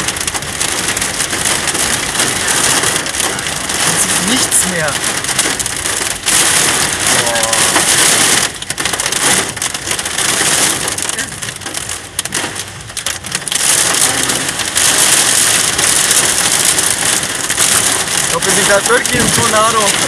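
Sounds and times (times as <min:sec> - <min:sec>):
heavy rain on car roof: 0:00.0 - 0:20.0.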